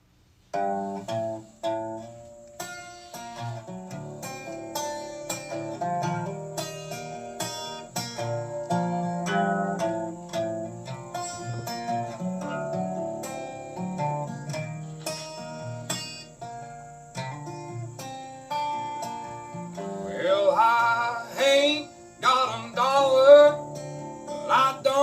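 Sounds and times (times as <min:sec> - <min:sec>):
acoustic guitar picking: 0:00.0 - 0:25.0.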